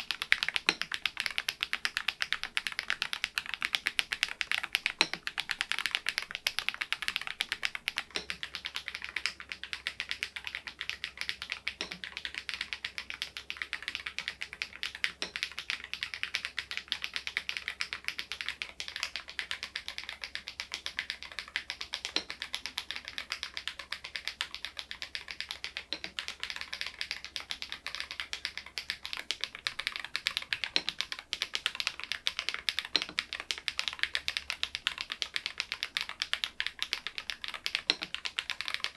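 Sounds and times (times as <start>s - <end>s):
mechanical keyboard typing: 0.0s - 15.4s, 16.2s - 38.9s.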